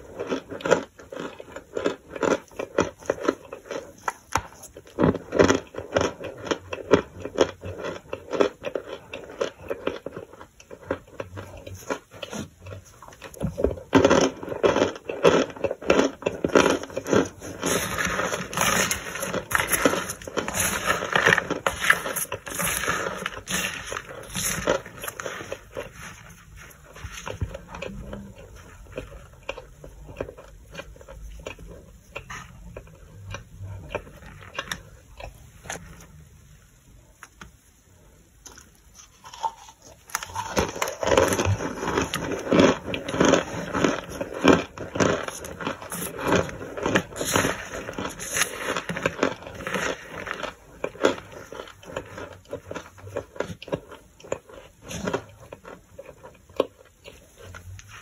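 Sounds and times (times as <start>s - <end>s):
crunching of toasted chunks: 0.0s - 36.1s, 38.4s - 58.0s.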